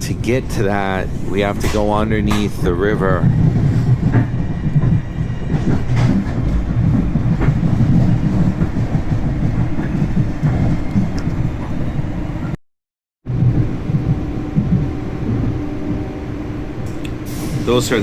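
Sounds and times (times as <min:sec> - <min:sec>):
train rumbling on rails: 0:00.0 - 0:12.6, 0:13.3 - 0:18.0.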